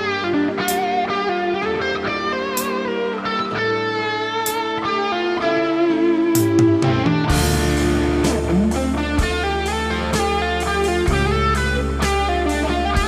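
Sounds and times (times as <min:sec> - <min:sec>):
electric guitar lead solo: 0:00.0 - 0:13.0
slow ballad backing track: 0:00.0 - 0:13.0.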